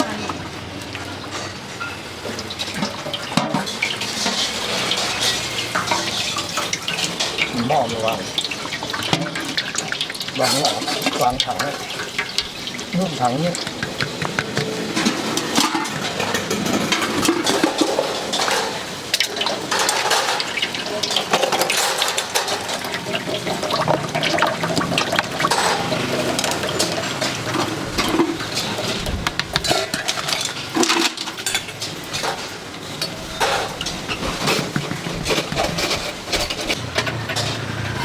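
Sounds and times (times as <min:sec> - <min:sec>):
liquid pouring and sloshing: 0:00.0 - 0:37.9
metal pots clattering: 0:00.0 - 0:38.0.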